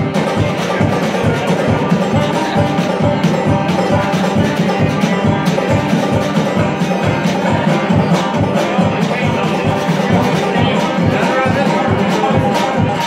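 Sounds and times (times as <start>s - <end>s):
banjo picking: 0.0s - 13.0s
lap-played string instrument: 0.0s - 13.0s
low beat: 0.0s - 13.0s.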